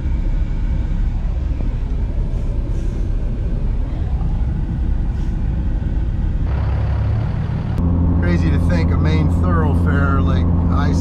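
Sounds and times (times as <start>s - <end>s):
vehicle rumble from inside cabin: 0.0s - 11.0s.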